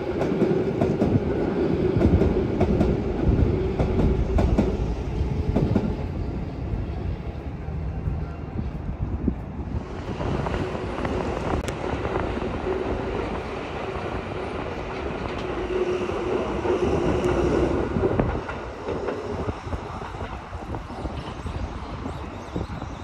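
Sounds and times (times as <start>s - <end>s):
train wheels clacking on rails: 0.0s - 9.0s, 9.8s - 22.7s
steady train whine: 0.0s - 23.0s.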